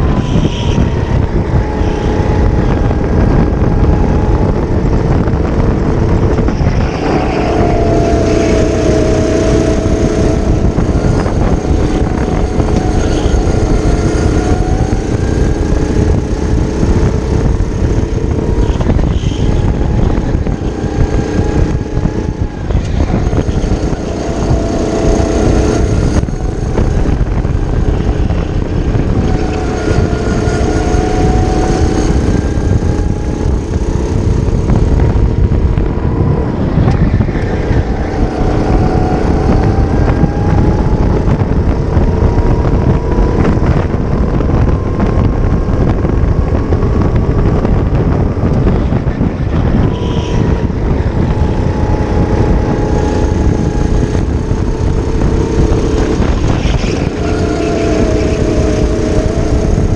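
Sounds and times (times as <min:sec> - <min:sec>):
kart engine at race pace: 0:00.0 - 0:59.9
wind noise on microphone: 0:00.0 - 0:59.9.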